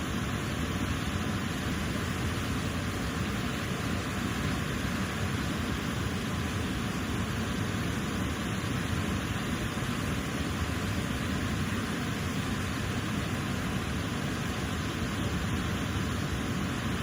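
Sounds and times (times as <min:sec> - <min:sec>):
waterfall and rushing current: 0:00.0 - 0:17.0.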